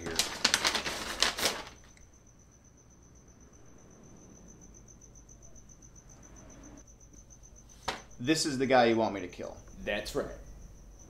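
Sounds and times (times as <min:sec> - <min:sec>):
cricket chirping: 0:00.0 - 0:11.0
low room hum: 0:00.0 - 0:11.0.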